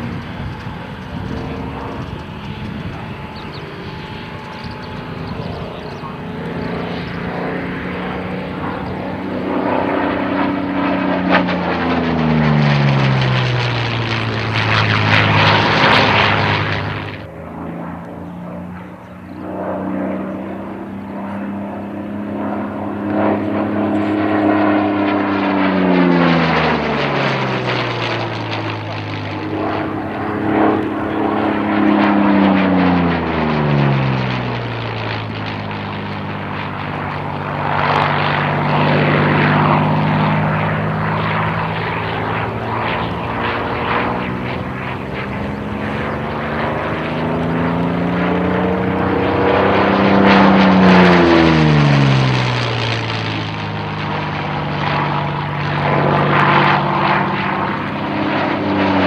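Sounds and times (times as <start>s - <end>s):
propeller plane engine passing: 0.0s - 59.0s.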